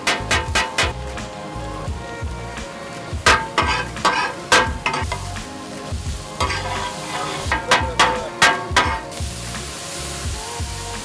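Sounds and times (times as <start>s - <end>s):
background music: 0.0s - 11.0s
fish sizzling on griddle: 0.0s - 11.0s.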